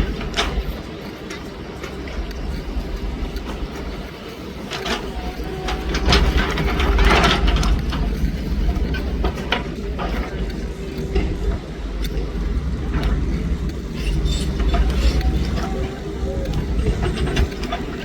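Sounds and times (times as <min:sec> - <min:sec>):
excavator diesel engine rumbling: 0:00.0 - 0:18.0
knocks and clatter: 0:00.0 - 0:18.0.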